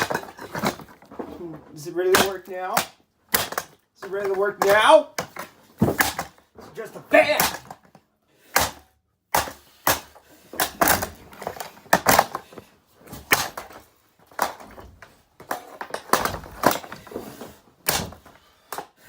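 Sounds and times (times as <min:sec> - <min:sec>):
plastic parts cracking and breaking: 0:00.0 - 0:06.5, 0:07.2 - 0:08.0, 0:09.4 - 0:19.0.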